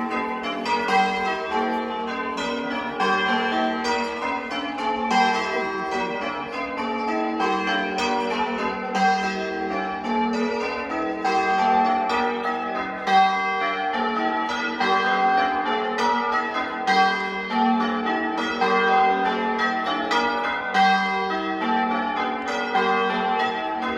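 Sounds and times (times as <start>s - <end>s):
church bells change ringing: 0.0s - 23.9s.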